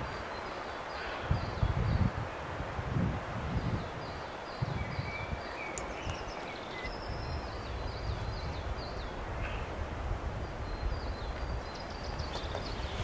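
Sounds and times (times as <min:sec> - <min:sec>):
songbirds chirping: 0:00.0 - 0:13.0
wind rush and rustling: 0:00.0 - 0:13.0.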